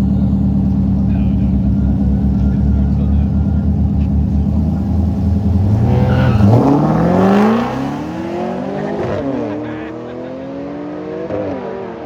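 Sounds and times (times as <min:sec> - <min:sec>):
car engine revving and accelerating: 0:01.2 - 0:12.0.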